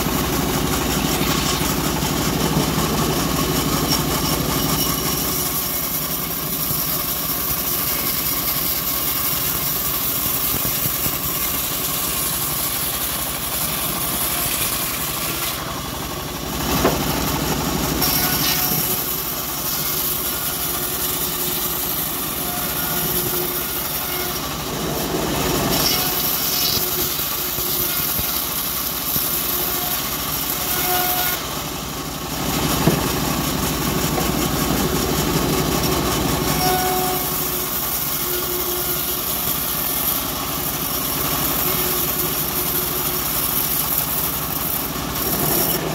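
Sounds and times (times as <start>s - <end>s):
bandsaw mill cutting log: 0.0s - 45.9s.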